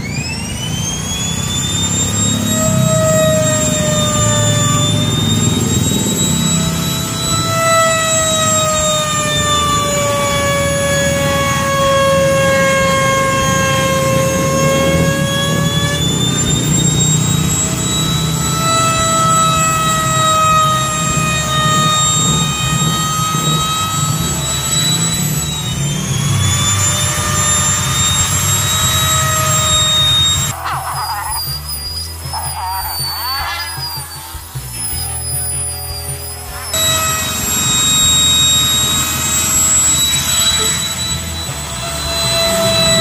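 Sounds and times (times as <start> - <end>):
electric router whining: 0.0 - 43.0.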